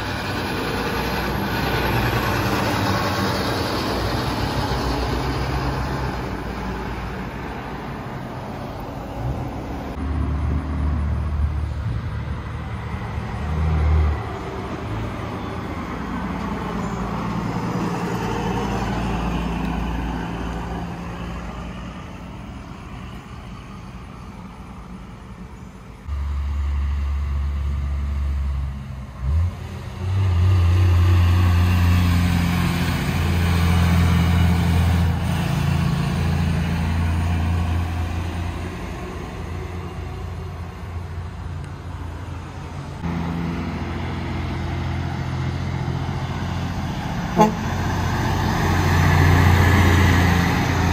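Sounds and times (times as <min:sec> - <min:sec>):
cars passing: 0:00.0 - 0:50.9
trucks droning past: 0:00.0 - 0:50.9.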